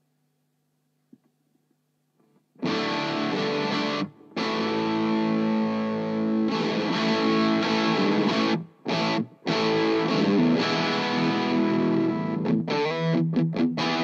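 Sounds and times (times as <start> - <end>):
distorted electric guitar chords: 2.6 - 14.0.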